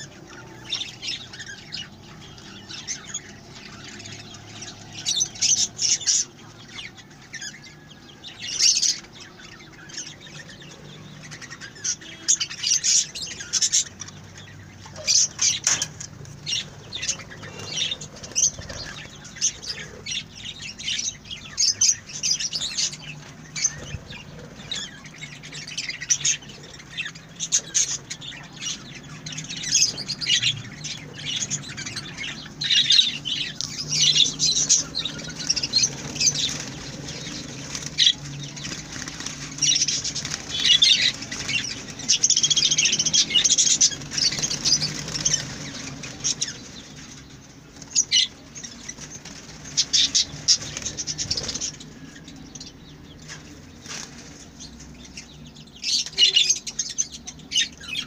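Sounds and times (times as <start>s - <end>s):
budgerigars chirping and squawking: 0.0s - 58.0s.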